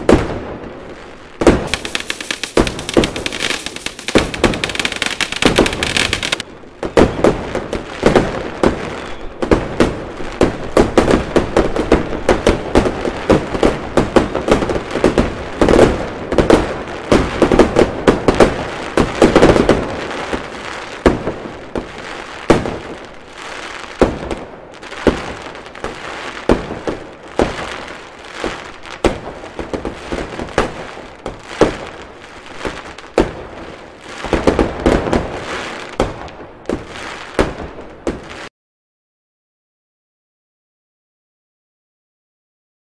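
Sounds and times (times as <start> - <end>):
fireworks bangs and pops: 0.0 - 38.5
steady fireworks crackle: 0.0 - 38.5.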